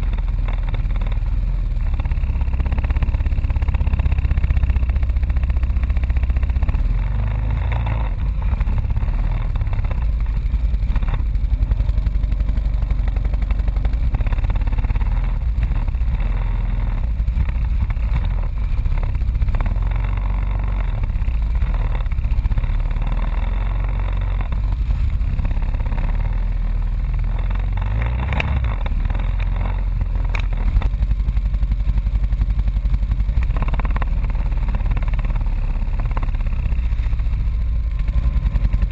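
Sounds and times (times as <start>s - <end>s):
atv engine rumbling: 0.0s - 38.9s.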